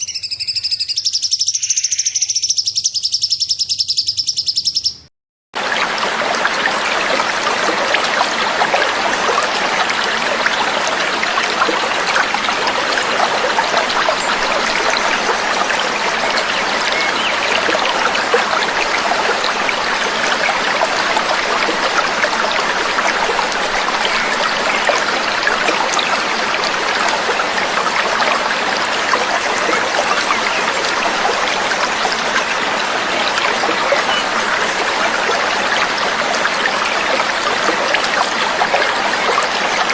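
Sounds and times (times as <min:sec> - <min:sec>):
babbling trickling water: 0:06.2 - 0:39.9.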